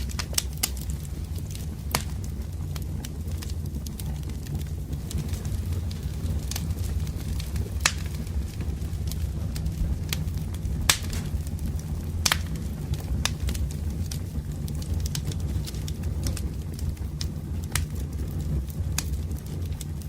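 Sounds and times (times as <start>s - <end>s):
firewood crackling and popping: 0.0s - 20.0s
low rush of flames: 0.0s - 20.0s.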